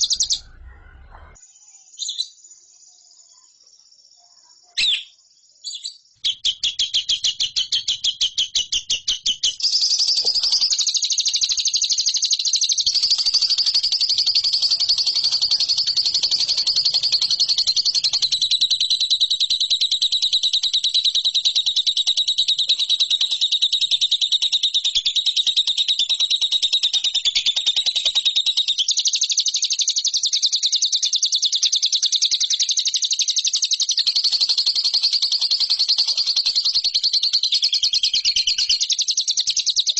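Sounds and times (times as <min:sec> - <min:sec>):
lovebird chirping trill: 0:00.0 - 0:28.9, 0:33.2 - 0:39.9.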